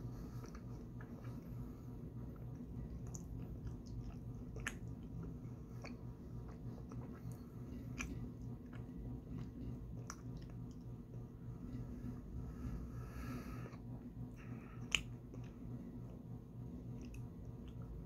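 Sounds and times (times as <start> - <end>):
chewing soft food: 0.0 - 18.0
steady low hum: 0.0 - 18.0.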